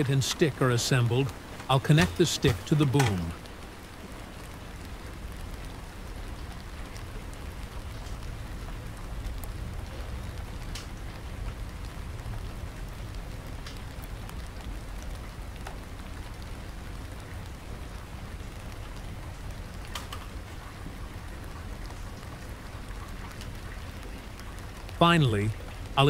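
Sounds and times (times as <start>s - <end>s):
steady rain-like hiss: 0.0s - 26.0s.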